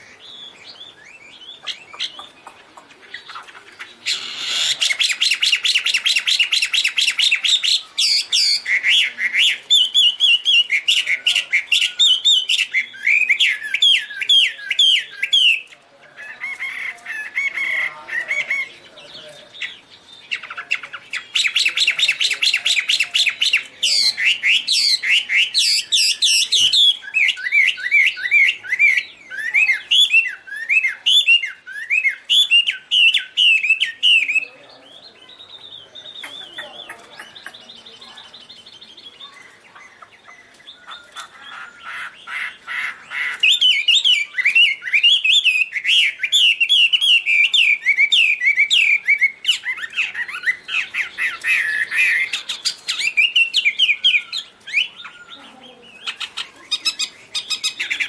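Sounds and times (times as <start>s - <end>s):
bird singing trills and whistles: 0.0s - 58.0s.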